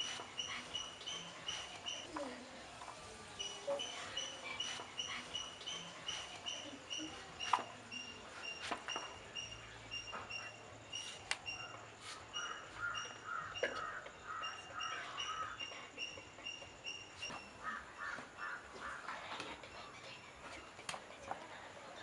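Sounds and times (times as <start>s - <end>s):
birds calling: 0.0s - 2.5s, 3.3s - 22.0s.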